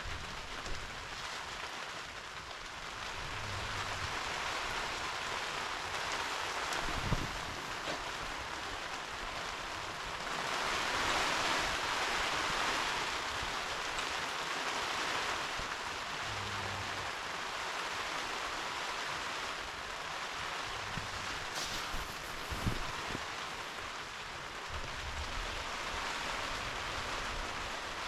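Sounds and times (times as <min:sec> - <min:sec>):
steady rain pouring: 0:00.0 - 0:28.0.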